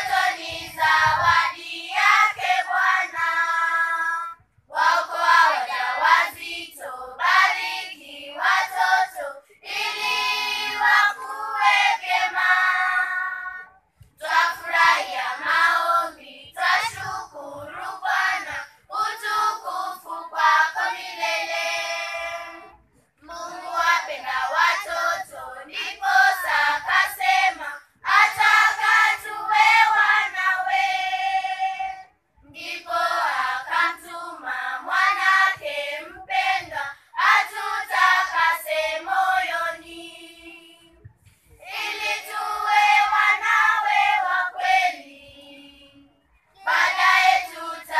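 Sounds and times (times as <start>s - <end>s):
children's choir singing: 0.0s - 40.8s, 41.6s - 47.9s.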